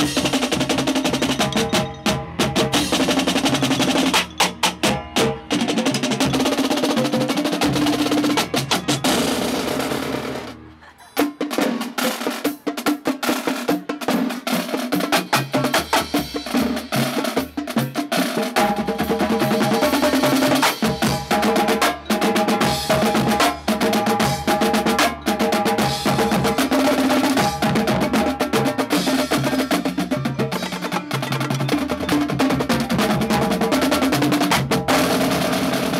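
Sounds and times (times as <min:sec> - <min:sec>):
tenor and bass drums: 0:00.0 - 0:35.9.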